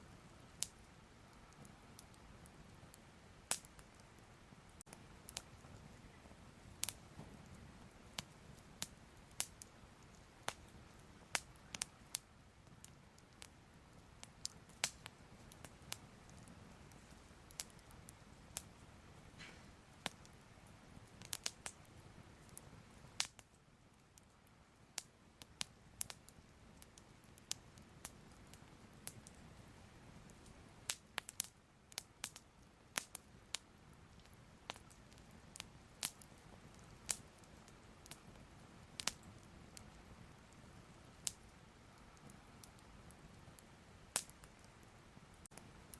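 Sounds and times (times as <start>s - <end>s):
fire crackling: 0.0s - 45.9s
low steady hiss: 0.0s - 45.9s.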